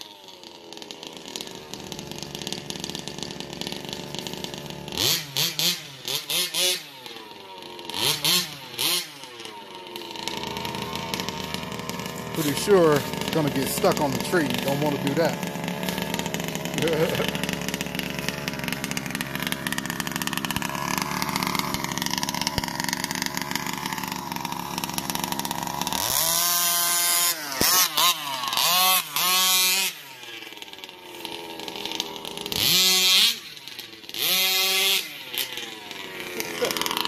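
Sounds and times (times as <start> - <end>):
small two-stroke engine revving: 0.0 - 37.0.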